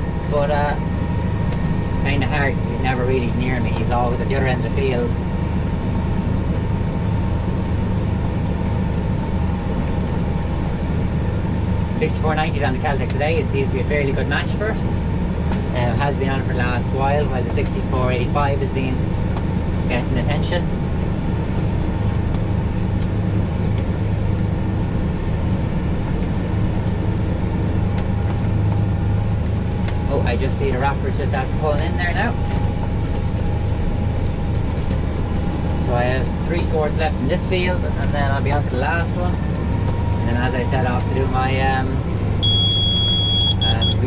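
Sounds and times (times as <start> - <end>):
faint steady whine: 0.0 - 44.0
tractor engine running under load: 0.0 - 44.0.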